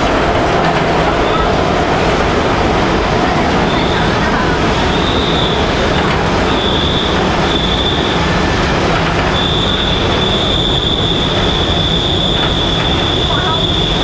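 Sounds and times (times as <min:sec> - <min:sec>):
subway wheels rumbling on rail: 0:00.0 - 0:14.0.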